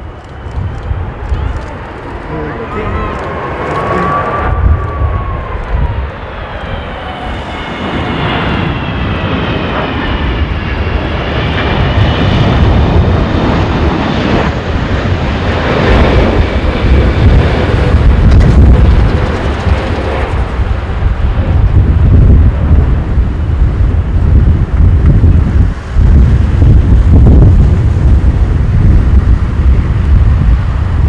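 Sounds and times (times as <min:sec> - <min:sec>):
jet airliner passing: 0:00.0 - 0:31.0
wind buffeting microphone: 0:00.0 - 0:31.0.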